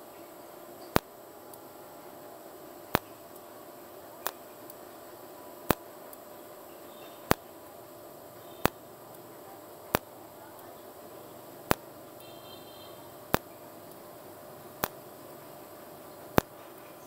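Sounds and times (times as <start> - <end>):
welding arc cracks: 0.7 - 17.0.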